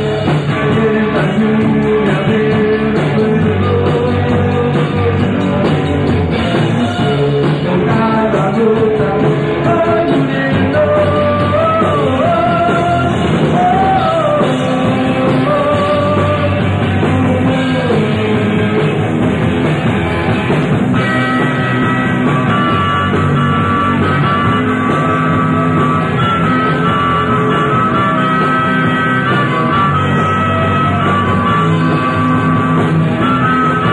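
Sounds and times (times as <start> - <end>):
electric guitar lead melody: 0.0 - 33.9
rock band playing live: 0.0 - 33.9.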